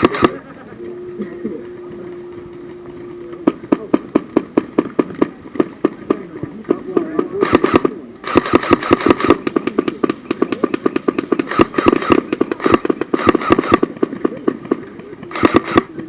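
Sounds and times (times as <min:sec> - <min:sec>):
airsoft guns firing: 0:00.0 - 0:00.6, 0:02.2 - 0:16.0.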